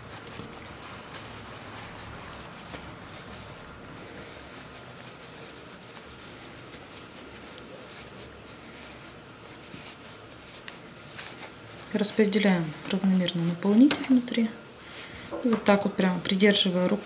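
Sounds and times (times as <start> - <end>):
stuffing rustling and rubbing: 0.0 - 17.0.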